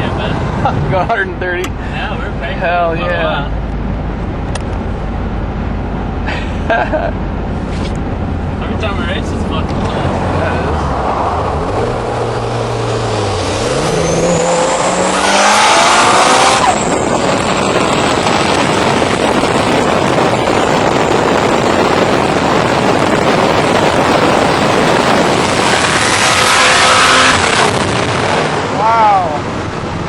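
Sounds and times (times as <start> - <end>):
engine accelerating hard: 0.0 - 30.0
wind and road noise: 0.0 - 30.0.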